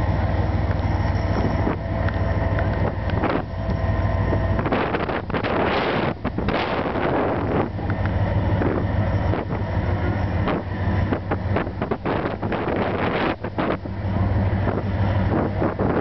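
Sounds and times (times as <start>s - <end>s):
diesel locomotive engine idling: 0.0s - 16.0s
wind buffeting microphone: 0.0s - 16.0s.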